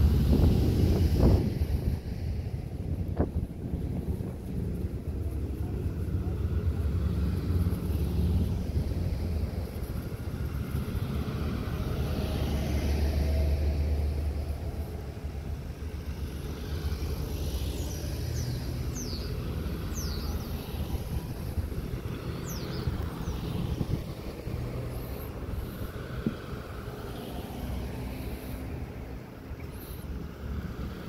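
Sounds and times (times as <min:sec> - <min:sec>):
cars driving slowly past: 0:00.0 - 0:31.0.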